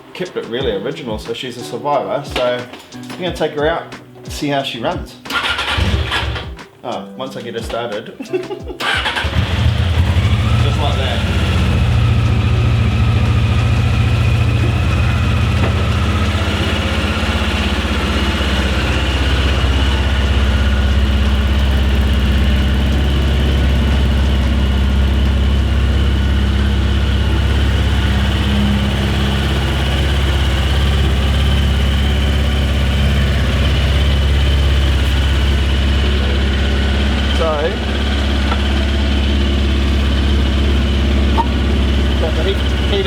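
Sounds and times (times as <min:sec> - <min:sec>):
motorcycle engine idling: 0:05.3 - 0:06.4, 0:08.8 - 0:43.0.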